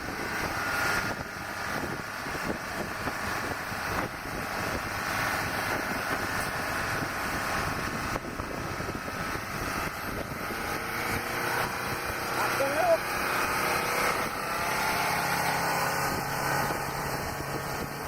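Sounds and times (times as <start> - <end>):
continuous rushing noise: 0.0 - 18.0
vehicle engine running: 0.0 - 18.0.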